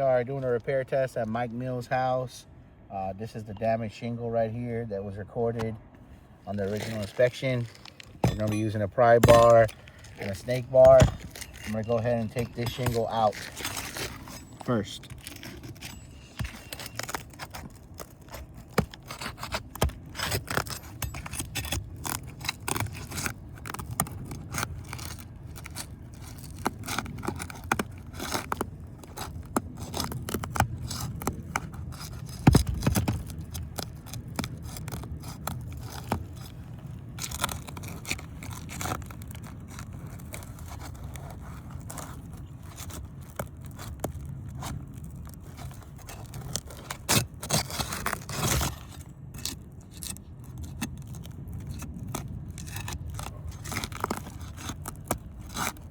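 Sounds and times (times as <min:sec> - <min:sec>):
pry bar scraping under shingle: 0:05.6 - 0:55.9.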